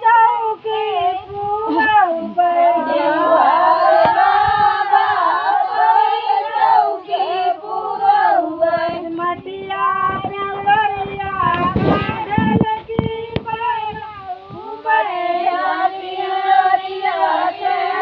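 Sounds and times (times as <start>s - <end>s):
women singing a folk song: 0.0s - 18.0s.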